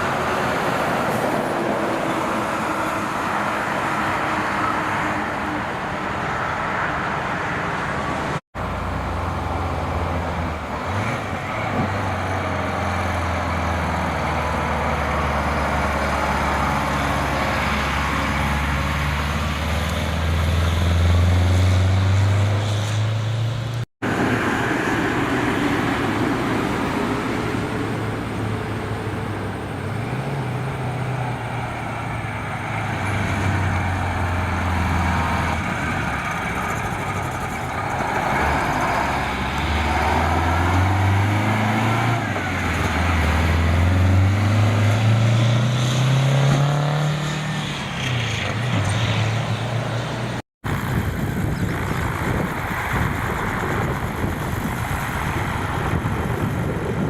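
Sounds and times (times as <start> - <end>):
road traffic noise: 0.0 - 57.0
truck diesel engine pulling away: 8.6 - 57.0.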